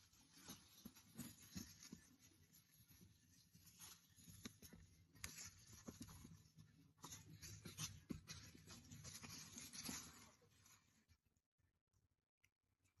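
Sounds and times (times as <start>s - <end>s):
scratching and rustling in soil: 0.0s - 10.9s.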